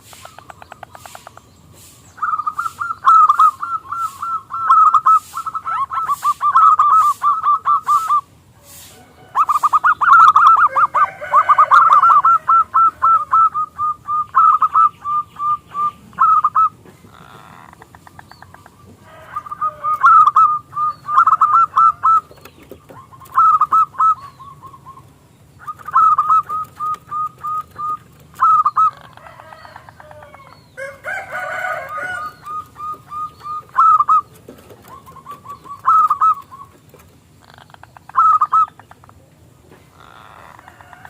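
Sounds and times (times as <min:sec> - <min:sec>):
rough noisy bird call: 0:00.0 - 0:41.0
small birds chirping: 0:00.0 - 0:41.0
dove cooing: 0:02.2 - 0:41.0.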